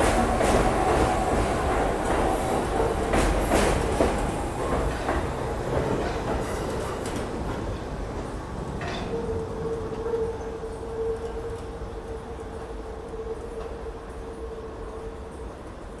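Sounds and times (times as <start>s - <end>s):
subway train wheels clacking: 0.0s - 16.0s.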